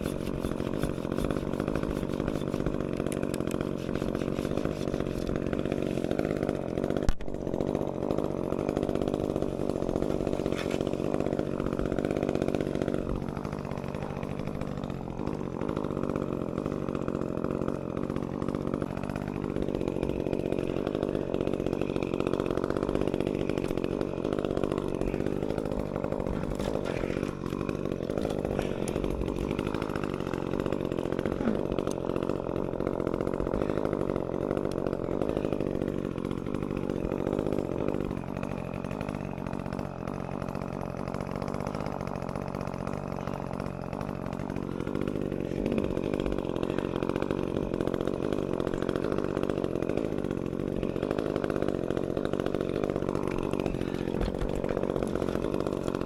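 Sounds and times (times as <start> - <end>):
chainsaw running at high revs: 0.0 - 56.0.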